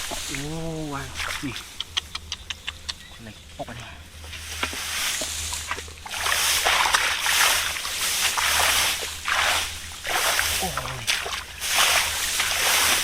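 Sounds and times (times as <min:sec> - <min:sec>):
splashing in muddy water: 0:00.0 - 0:02.3, 0:04.3 - 0:13.0.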